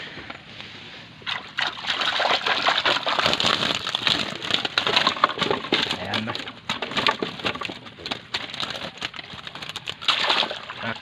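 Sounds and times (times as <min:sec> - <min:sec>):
water splashing and sloshing: 0:01.2 - 0:11.0.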